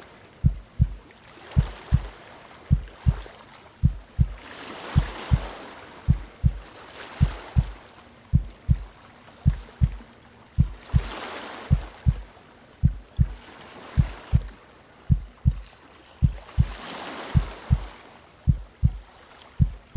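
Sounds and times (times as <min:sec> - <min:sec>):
calm ocean waves: 0:00.0 - 0:19.9
slow heartbeat thumps: 0:00.4 - 0:01.0, 0:01.6 - 0:02.1, 0:02.7 - 0:04.4, 0:05.0 - 0:10.0, 0:10.6 - 0:13.4, 0:14.0 - 0:17.9, 0:18.5 - 0:19.9.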